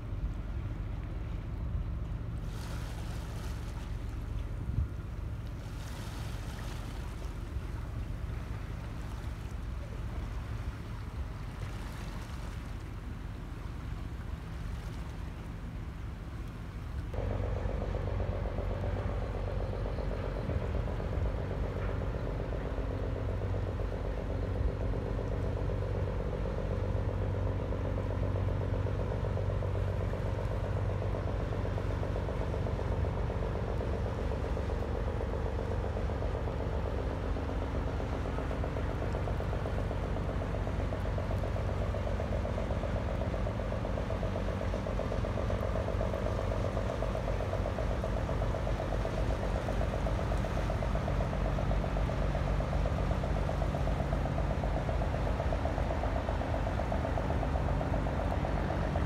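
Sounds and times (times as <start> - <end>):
ship diesel engine droning: 0.0 - 59.0.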